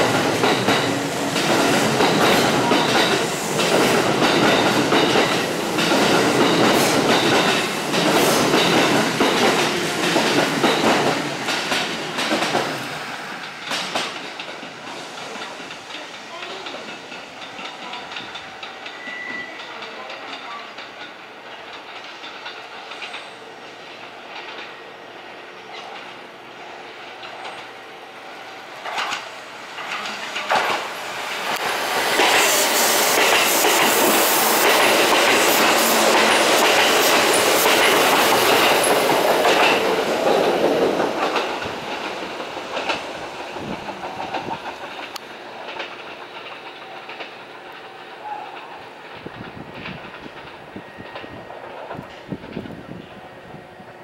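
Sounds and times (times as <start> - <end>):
train wheel clicks: 0.0 - 24.8, 28.7 - 52.8
train wheels clattering on rails: 0.0 - 54.0.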